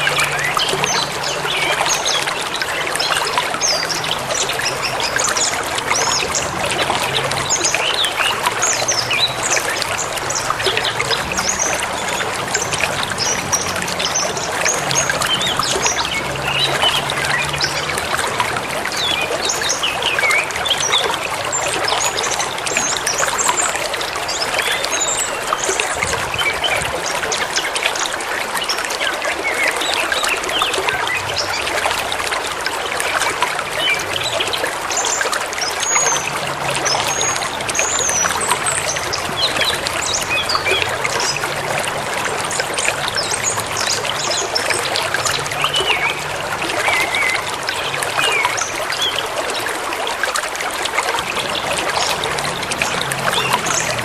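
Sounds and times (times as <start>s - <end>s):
river running: 0.0s - 54.0s.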